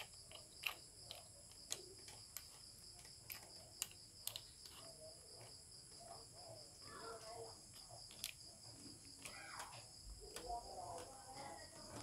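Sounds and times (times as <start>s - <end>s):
hands clicking and tapping parts: 0.0s - 6.4s, 7.2s - 12.0s
crickets chirring: 0.0s - 12.0s.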